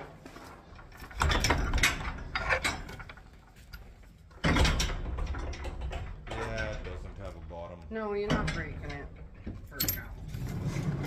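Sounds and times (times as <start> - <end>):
metal gate rattling: 0.9 - 3.3, 4.3 - 11.0.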